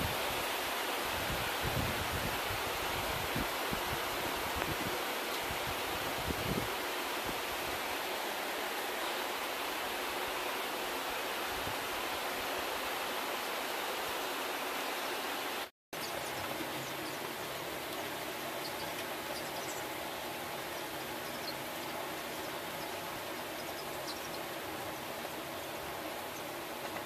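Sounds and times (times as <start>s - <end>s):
heavy rain on trees: 0.0s - 27.0s.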